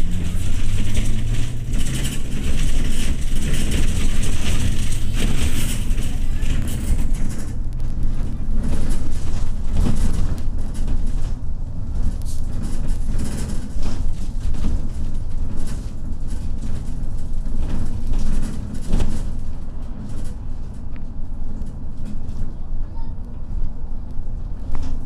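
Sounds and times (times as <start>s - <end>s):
bus engine and road rumble: 0.0s - 25.0s
rattle in bus cabin: 0.0s - 25.0s.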